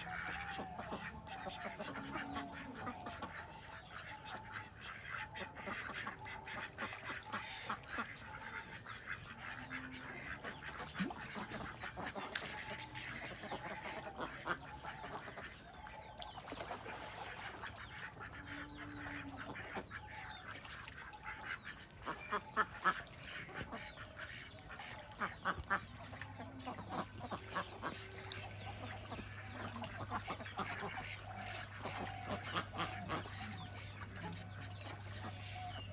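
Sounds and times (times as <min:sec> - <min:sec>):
birds calling: 0:00.0 - 0:35.9.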